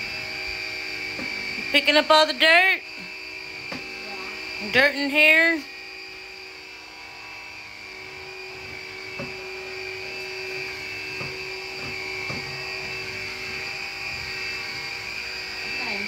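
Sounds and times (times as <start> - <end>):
vacuum motor whine: 0.0 - 16.0.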